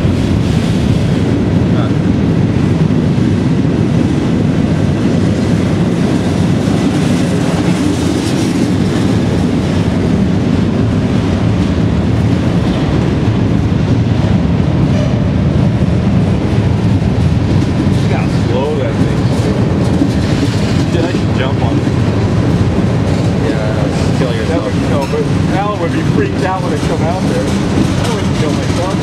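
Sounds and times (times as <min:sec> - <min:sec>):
freight train rolling in tunnel: 0:00.0 - 0:29.0.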